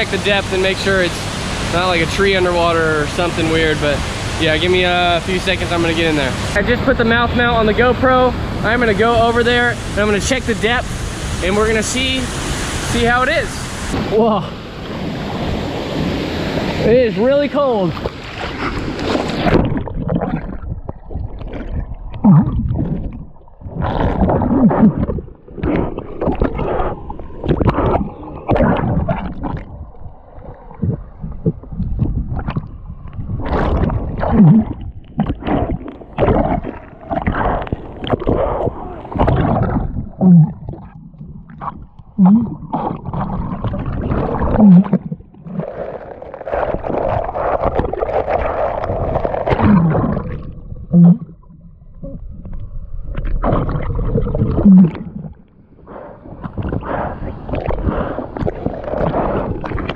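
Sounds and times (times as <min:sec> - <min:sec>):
muffled water splashing and gurgling: 0:00.0 - 0:59.9.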